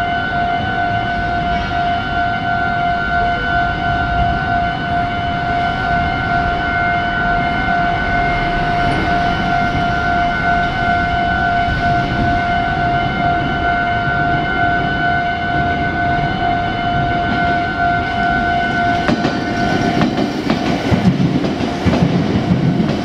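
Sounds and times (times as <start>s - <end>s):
level crossing warning bell: 0.0s - 22.9s.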